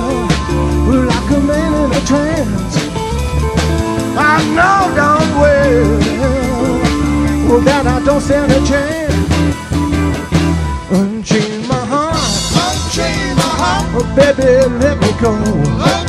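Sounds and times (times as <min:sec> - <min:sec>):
live rock band playing: 0:00.0 - 0:16.0
wavering lead guitar line: 0:00.0 - 0:16.0.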